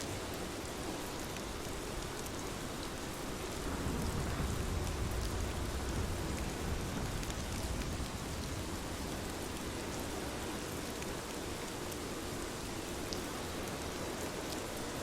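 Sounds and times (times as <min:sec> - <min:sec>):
rain drops ticking: 0:00.0 - 0:15.0
steady rain hissing: 0:00.0 - 0:15.0.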